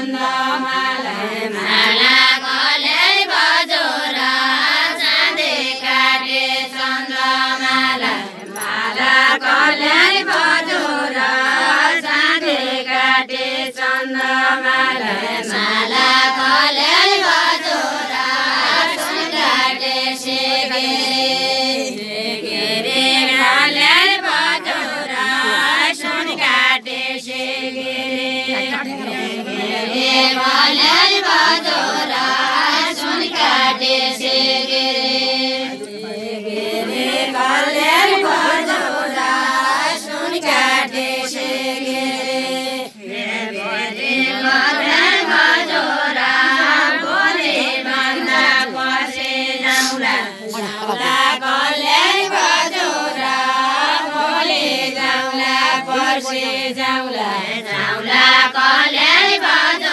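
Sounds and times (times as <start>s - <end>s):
women singing unaccompanied: 0.0s - 59.9s.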